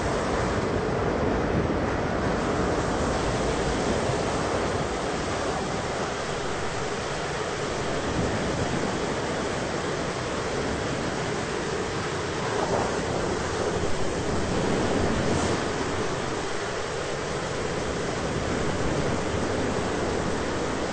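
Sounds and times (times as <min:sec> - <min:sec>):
rain: 0:00.0 - 0:20.9
rushing wind: 0:00.0 - 0:20.9.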